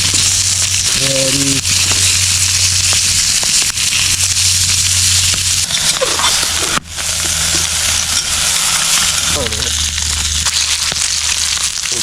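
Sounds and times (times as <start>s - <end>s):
food crackling and sizzling: 0.0s - 12.0s.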